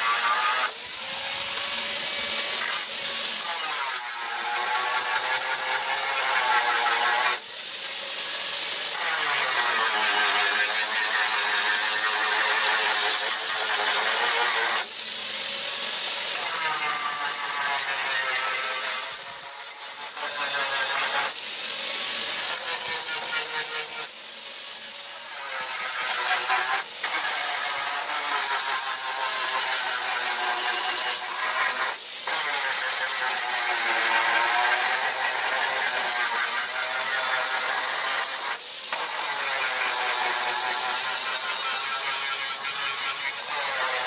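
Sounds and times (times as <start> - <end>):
electric grinder motor: 0.0 - 44.0.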